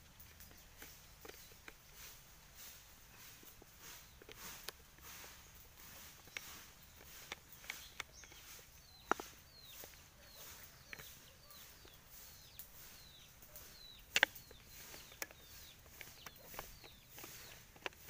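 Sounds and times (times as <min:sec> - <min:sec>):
bird chirping: 0:00.0 - 0:18.0
sharp clicks and knocks: 0:03.2 - 0:18.0.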